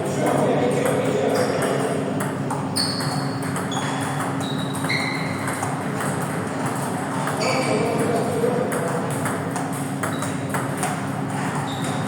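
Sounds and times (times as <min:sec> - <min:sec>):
low hum of hall noise: 0:00.0 - 0:12.0
table tennis balls clicking: 0:01.6 - 0:12.0.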